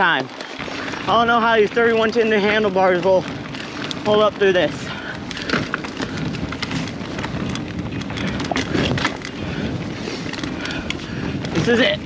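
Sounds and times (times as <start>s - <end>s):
bike knocking and rattling: 0.0s - 12.0s
tyres crunching over dirt and rocks: 0.0s - 12.0s.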